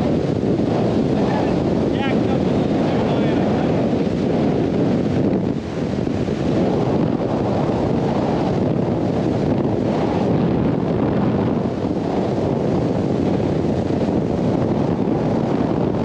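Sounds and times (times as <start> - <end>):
water rushing under hull: 0.0 - 16.0
wind buffeting microphone: 0.0 - 16.0.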